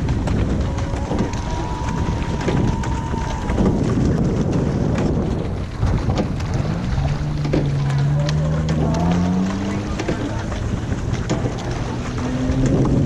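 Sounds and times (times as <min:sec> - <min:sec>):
steady low rumble: 0:00.0 - 0:13.0
wind buffeting the microphone: 0:00.0 - 0:13.0.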